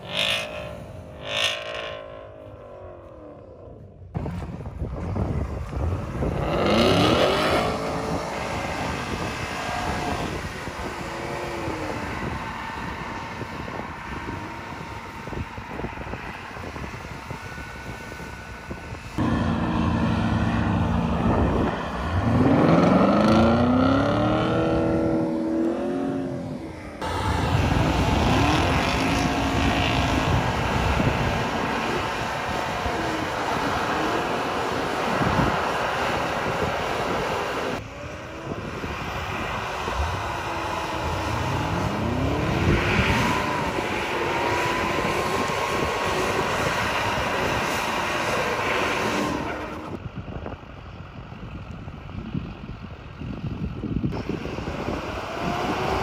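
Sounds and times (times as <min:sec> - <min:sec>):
engines revving: 0:00.0 - 0:50.0, 0:54.1 - 0:56.0.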